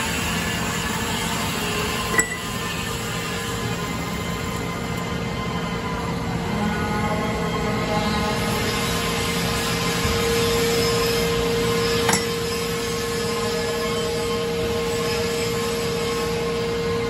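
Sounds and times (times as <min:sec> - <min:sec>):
band saw cutting metal: 0:00.0 - 0:04.6, 0:07.5 - 0:16.8.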